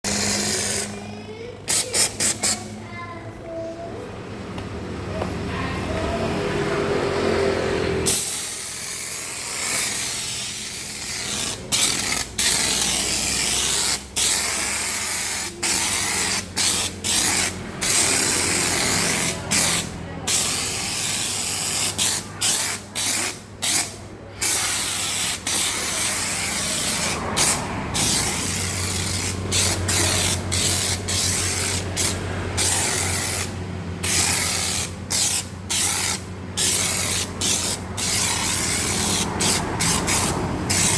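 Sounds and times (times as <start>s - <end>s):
foam sprayer hissing: 0.0s - 2.7s, 8.0s - 40.9s.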